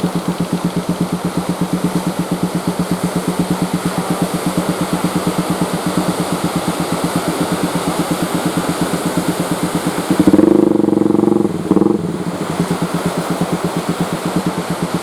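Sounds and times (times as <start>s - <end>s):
boat engine thumping: 0.0s - 15.0s
loud steady tone: 0.0s - 15.0s.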